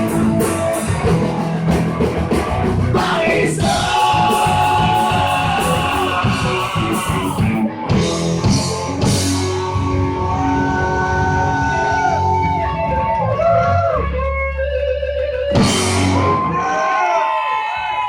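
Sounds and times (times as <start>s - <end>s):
electric guitar bending notes: 0.0s - 16.7s
bass guitar: 0.0s - 17.2s
drums: 0.0s - 18.0s.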